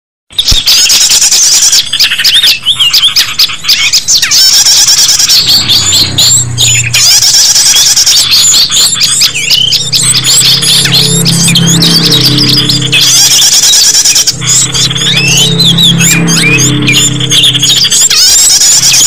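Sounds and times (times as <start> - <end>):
small songbirds chirping and trilling: 0.3 - 19.0.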